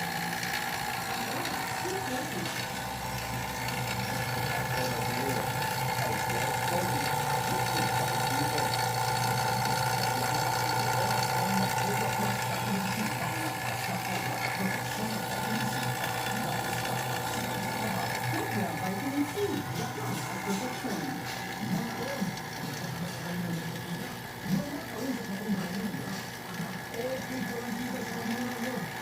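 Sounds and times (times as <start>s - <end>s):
car ac compressor humming: 0.0s - 29.0s.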